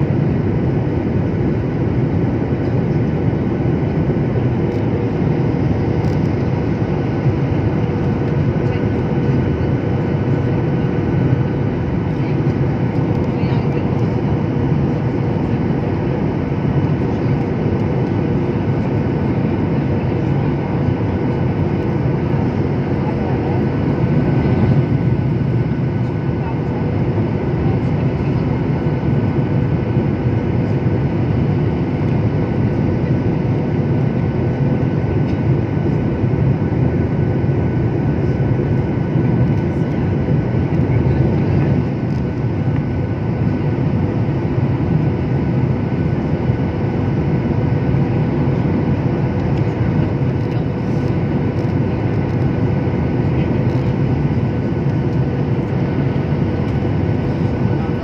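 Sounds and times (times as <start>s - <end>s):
airliner cabin noise: 0.0s - 58.0s.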